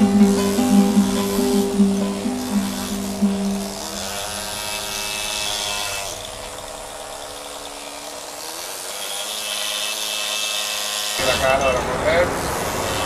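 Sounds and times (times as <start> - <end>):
stone chips hissing: 0.0 - 13.0.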